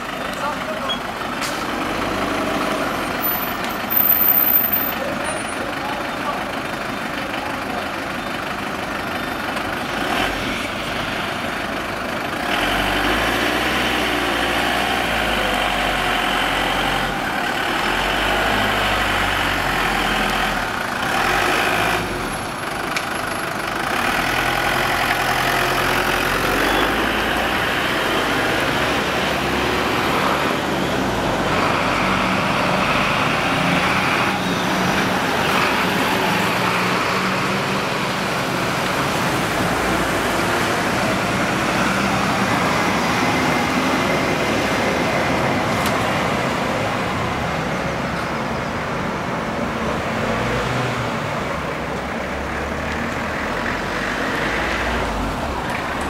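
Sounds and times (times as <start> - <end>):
fire engines driving past: 0.0 - 56.0.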